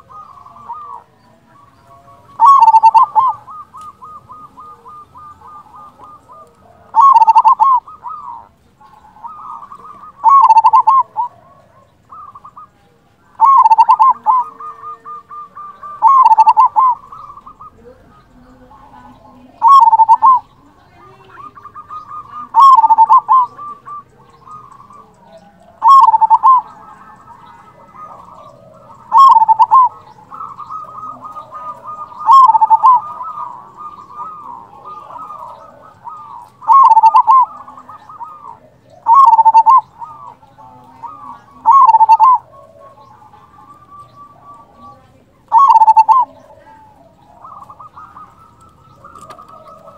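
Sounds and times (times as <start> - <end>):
dove cooing: 0.0 - 49.9
soft rolling bird notes: 0.0 - 49.9.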